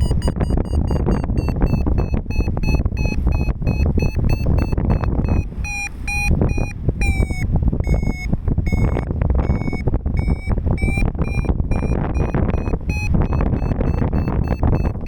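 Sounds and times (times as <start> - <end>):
short electronic beeps: 0.0 - 15.0
wind roar on microphone: 0.0 - 15.0.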